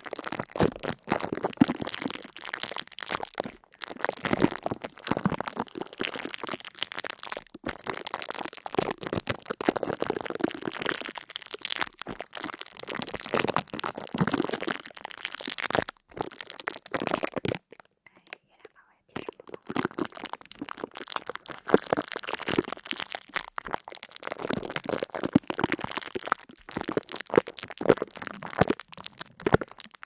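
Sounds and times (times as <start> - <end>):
crackling and crunching: 0.0 - 30.0.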